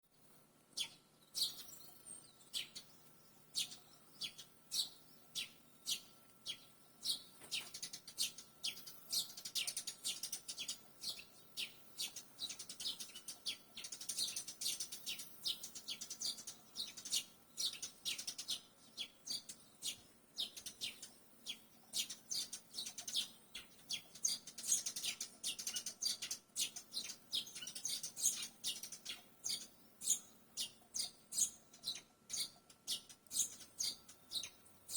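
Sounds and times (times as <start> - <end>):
swallows chirping and twittering: 0.2 - 34.9.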